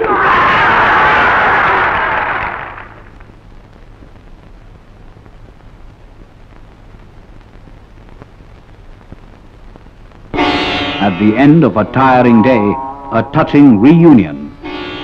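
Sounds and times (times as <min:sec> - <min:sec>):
film soundtrack hum and crackle: 0:00.0 - 0:15.0.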